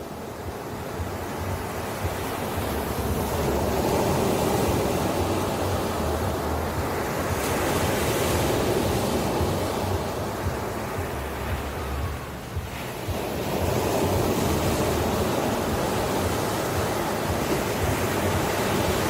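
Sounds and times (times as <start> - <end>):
ocean waves washing onto shore: 0.0 - 19.0
wind rumble on microphone: 0.0 - 19.0.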